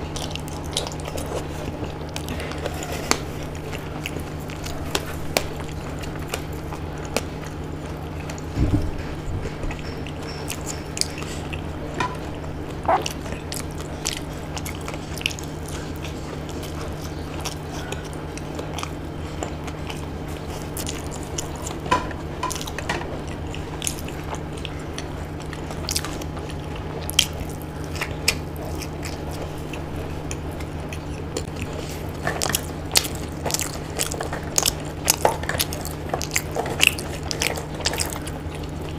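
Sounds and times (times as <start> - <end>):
chewing crunchy fried food: 0.0 - 38.9
steady low hum: 0.0 - 38.9.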